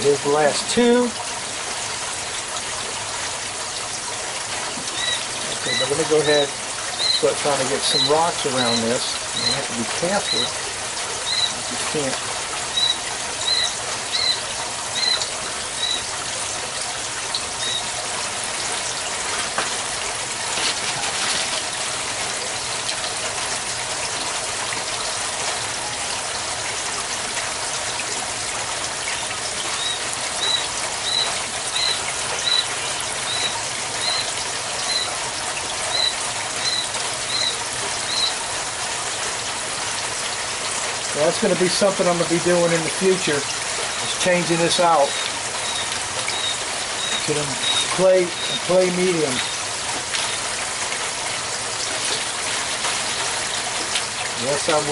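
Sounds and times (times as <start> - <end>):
water running from pipe: 0.0 - 54.9.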